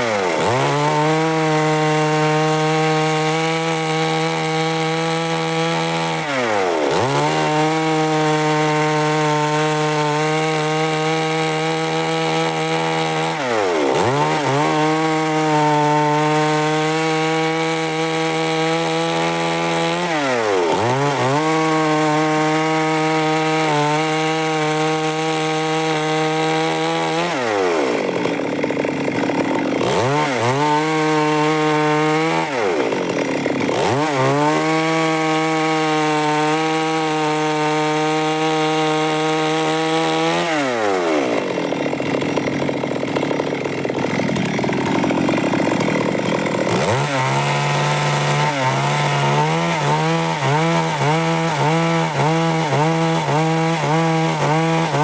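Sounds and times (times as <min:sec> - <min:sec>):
chainsaw sawing wood: 0:00.0 - 0:55.0.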